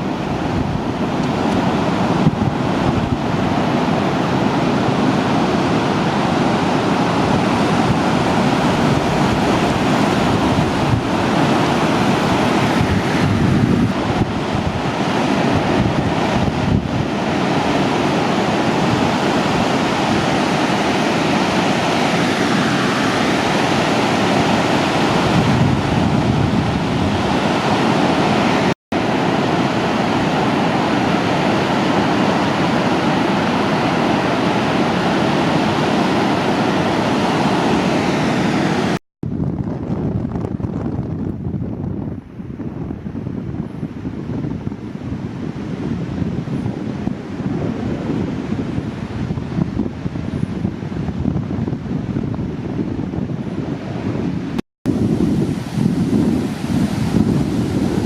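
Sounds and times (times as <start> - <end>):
ocean surf breaking: 0.0 - 39.0, 42.2 - 58.0
wind on microphone: 0.0 - 58.0.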